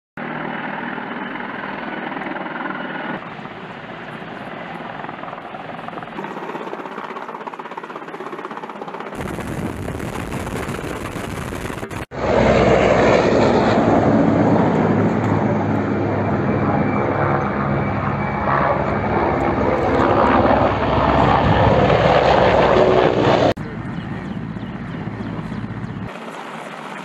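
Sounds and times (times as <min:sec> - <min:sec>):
helicopters flying overhead: 0:00.2 - 0:27.0.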